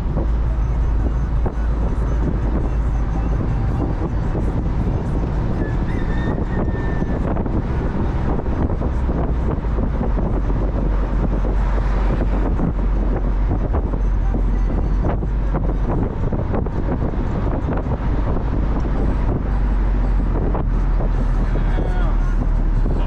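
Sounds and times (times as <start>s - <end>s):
car road and engine rumble: 0.0s - 23.0s
wind buffeting microphone: 0.0s - 23.0s.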